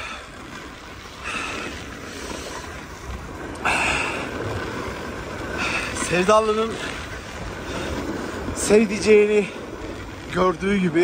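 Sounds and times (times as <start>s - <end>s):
skis scraping over snow: 0.0s - 11.0s
wind over microphone: 0.0s - 11.0s.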